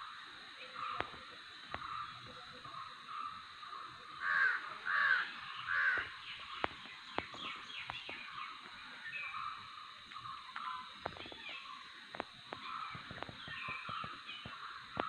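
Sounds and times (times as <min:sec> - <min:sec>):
loud bird calls: 0:00.0 - 0:15.0.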